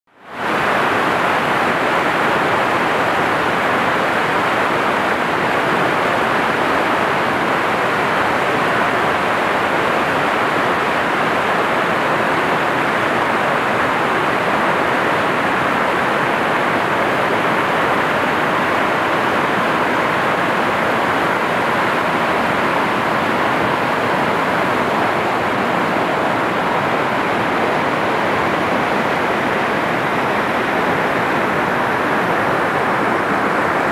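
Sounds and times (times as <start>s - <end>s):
river rapid rushing over rocks: 0.2s - 33.9s.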